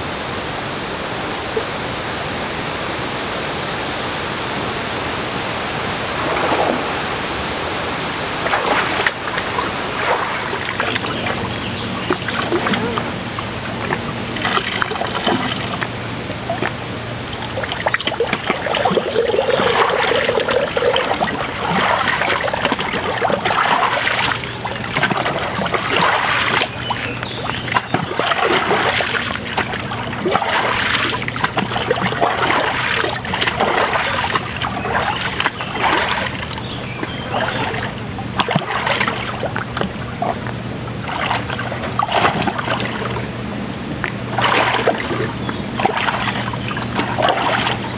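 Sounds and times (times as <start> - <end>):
running stream water: 0.0 - 47.9
boots splashing in water: 8.4 - 43.4, 44.0 - 47.9.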